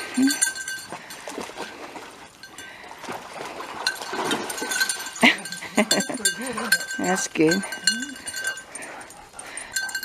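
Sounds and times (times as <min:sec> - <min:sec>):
dog splashing in shallow water: 0:00.0 - 0:08.7.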